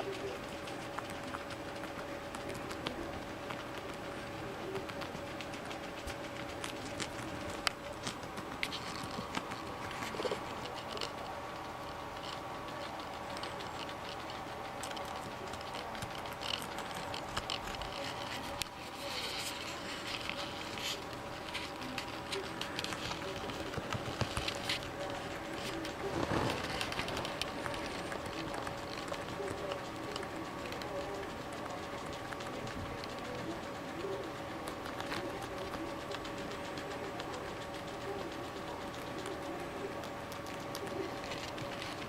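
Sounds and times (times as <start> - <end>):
guinea pigs chewing cabbage: 0.0 - 42.0
steady background hum: 0.0 - 42.0.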